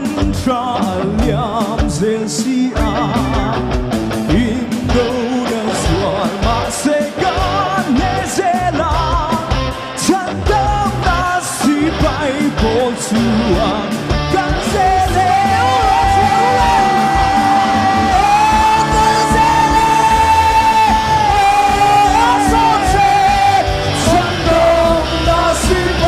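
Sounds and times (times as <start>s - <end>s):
guitar: 0.0s - 26.0s
live band music: 0.0s - 26.0s
person singing into microphone: 0.0s - 26.0s.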